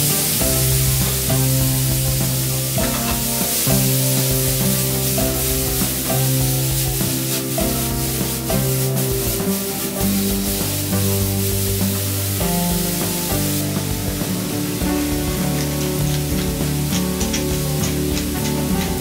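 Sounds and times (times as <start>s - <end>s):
background music: 0.0s - 19.0s
vegetables sizzling in a pan: 0.0s - 19.0s.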